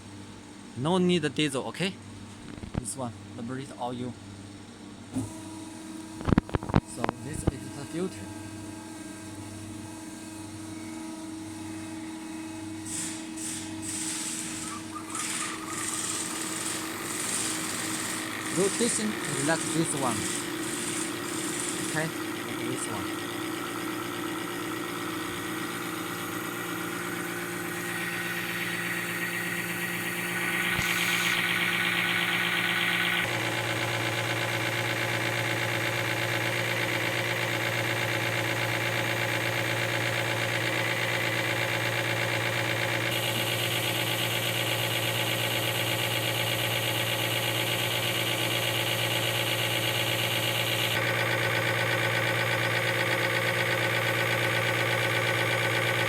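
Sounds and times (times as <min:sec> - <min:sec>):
pump test bench machine hum: 0:00.0 - 0:01.0, 0:02.0 - 0:56.0.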